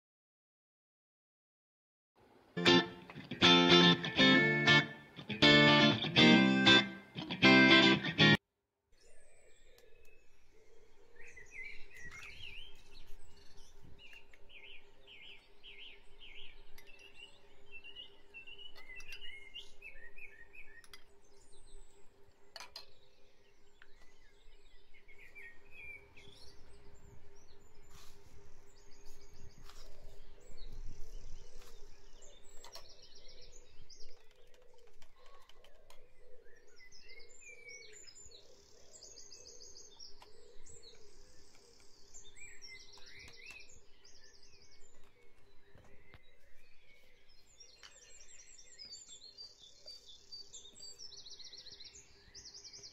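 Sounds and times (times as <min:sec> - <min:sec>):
songbirds chirping and trilling: 0:02.6 - 0:52.9.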